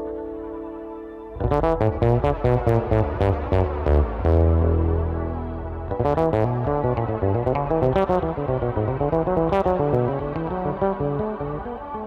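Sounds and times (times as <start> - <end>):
picked bass notes: 0.0 - 12.0
bass guitar note with shimmer effect: 1.4 - 11.7.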